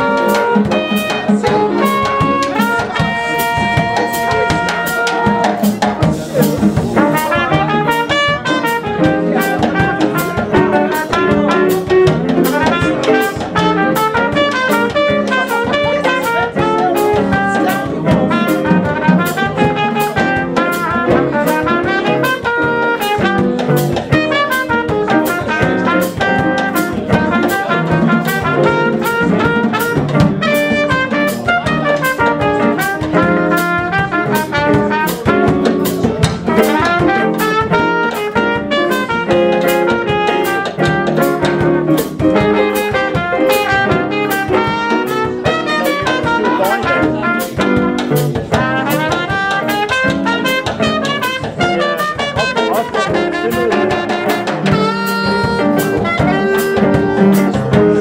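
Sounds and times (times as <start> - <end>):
drum kit with cymbals: 0.0 - 58.0
electric guitar: 0.0 - 58.0
trumpet: 0.0 - 58.0.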